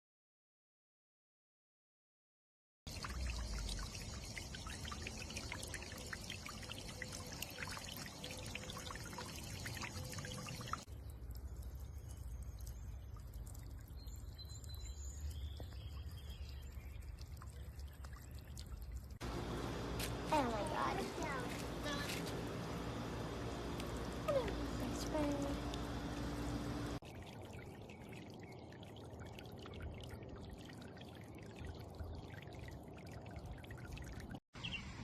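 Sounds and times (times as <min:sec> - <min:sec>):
fountain water splashing and trickling: 0:02.9 - 0:34.4.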